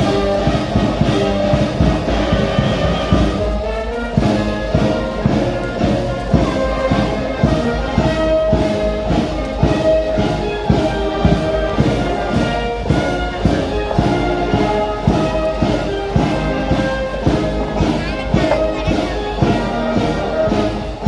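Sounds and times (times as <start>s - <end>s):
brass band playing a march: 0.0s - 21.0s
drum beat: 0.0s - 21.0s.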